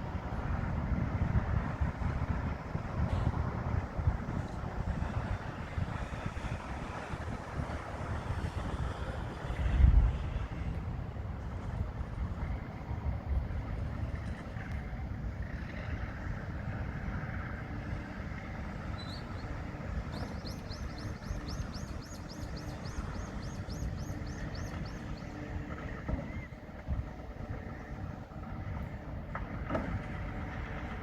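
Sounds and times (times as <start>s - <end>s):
diesel machinery rumbling: 0.0s - 31.0s.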